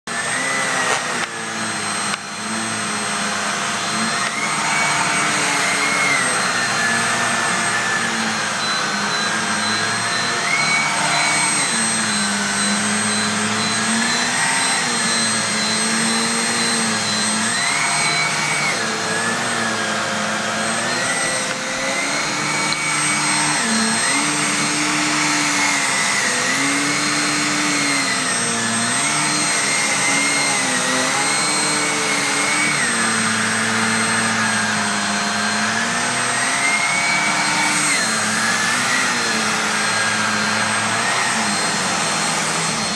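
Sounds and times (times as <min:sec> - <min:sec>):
handheld vacuum cleaner running: 0:00.0 - 0:42.9.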